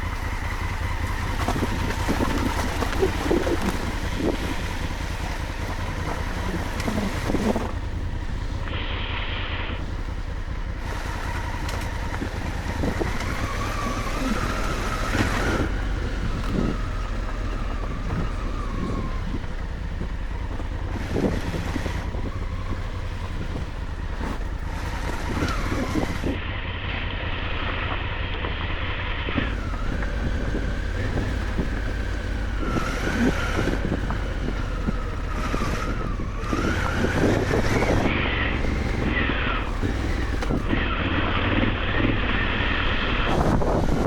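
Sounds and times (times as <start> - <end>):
wind on microphone: 0.0 - 8.8, 9.7 - 26.4, 29.3 - 44.0
knocks and rattles of bike: 0.0 - 44.0
motorcycle engine running: 0.0 - 44.0.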